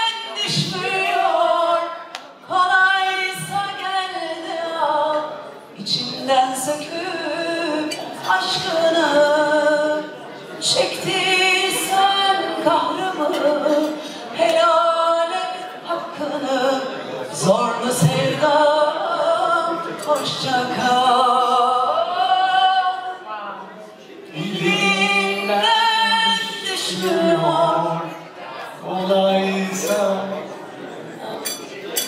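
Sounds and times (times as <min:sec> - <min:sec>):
woman singing unaccompanied: 0:00.0 - 0:23.2, 0:24.3 - 0:28.1.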